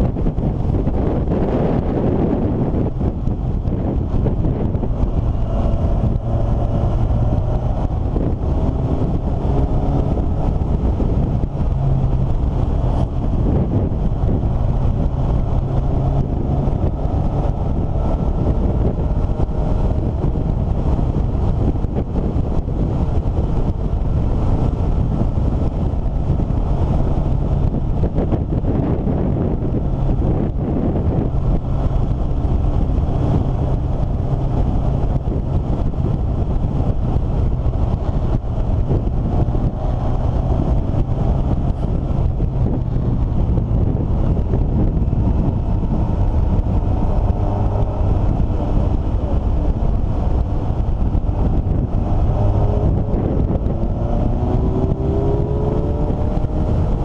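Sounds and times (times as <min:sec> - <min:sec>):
vehicle engine running: 0:00.0 - 0:57.0
wind rumble on microphone: 0:00.0 - 0:57.0.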